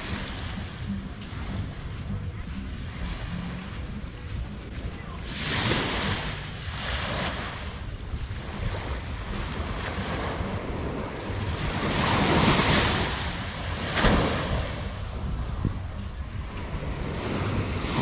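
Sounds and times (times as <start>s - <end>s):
small waves washing on sand: 0.0s - 18.0s
wind rumble on microphone: 0.0s - 18.0s.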